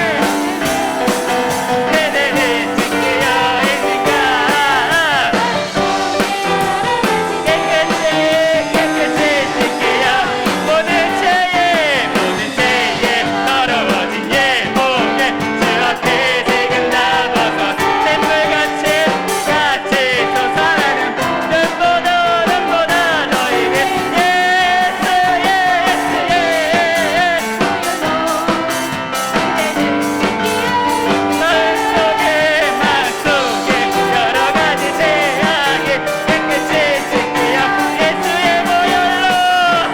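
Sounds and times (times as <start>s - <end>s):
piano: 0.0s - 39.9s
steady drum beat: 0.0s - 39.9s
voices singing: 0.0s - 39.9s
worship band playing: 0.0s - 39.9s.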